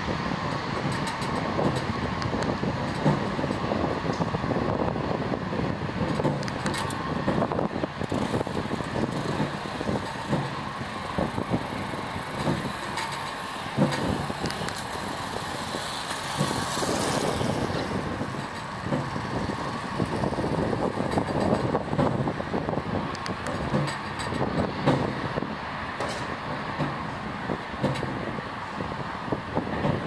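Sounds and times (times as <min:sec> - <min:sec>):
turboprop engines running: 0:00.0 - 0:30.0.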